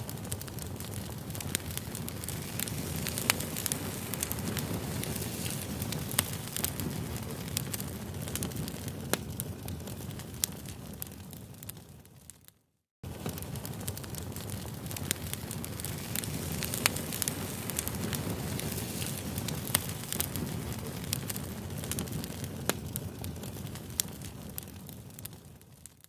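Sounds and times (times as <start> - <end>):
campfire crackling: 0.0 - 26.0
fire pops and snaps: 0.0 - 26.0.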